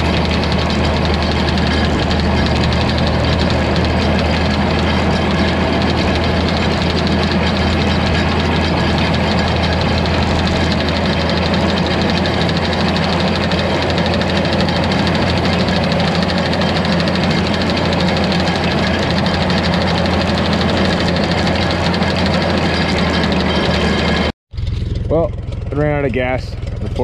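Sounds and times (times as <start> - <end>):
old tractor engine running: 0.0 - 27.0.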